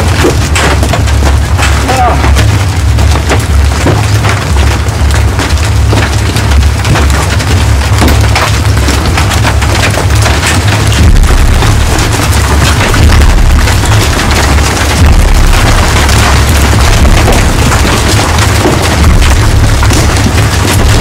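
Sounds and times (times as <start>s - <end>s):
deep steady storm rumble: 0.0s - 21.0s
hailstones clattering: 0.0s - 21.0s.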